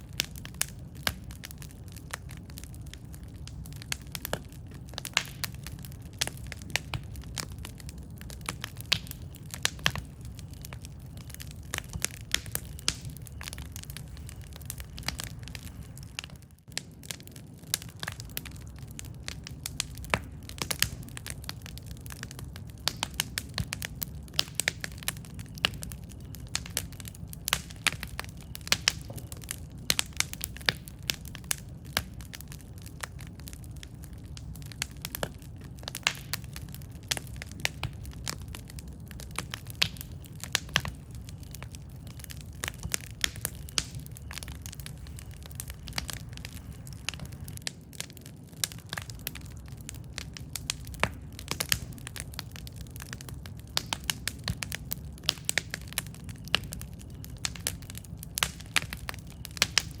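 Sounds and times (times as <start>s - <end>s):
burning wood crackling and popping: 0.0s - 60.0s
low rumble of flames: 0.0s - 60.0s.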